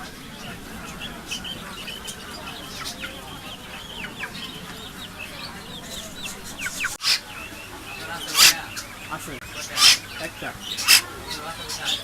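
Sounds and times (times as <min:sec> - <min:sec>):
low background hubbub: 0:00.0 - 0:12.0
many birds chirping: 0:00.0 - 0:12.0.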